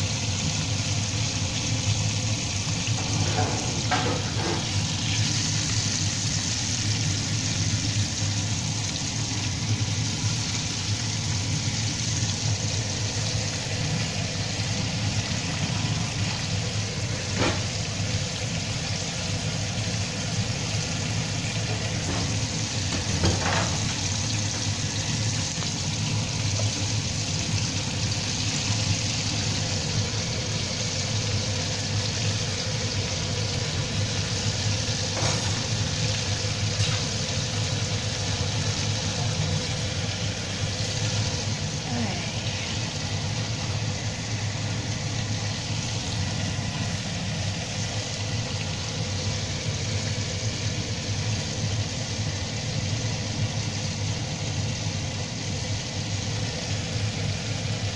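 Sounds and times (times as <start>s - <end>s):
oil sizzling and crackling: 0.0s - 57.9s.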